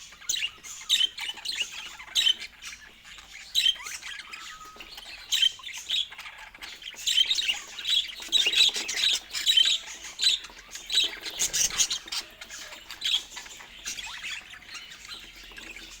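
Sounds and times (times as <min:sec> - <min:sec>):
budgerigar chirps and squawks: 0:00.0 - 0:16.0.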